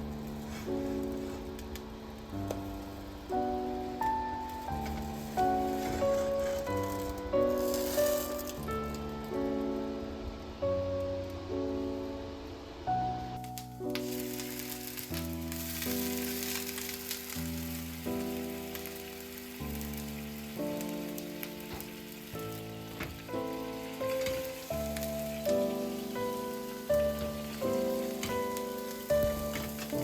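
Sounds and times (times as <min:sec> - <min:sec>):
food sizzling in frying pan: 0:00.0 - 0:09.9, 0:13.4 - 0:30.0
soft piano music: 0:00.0 - 0:30.0.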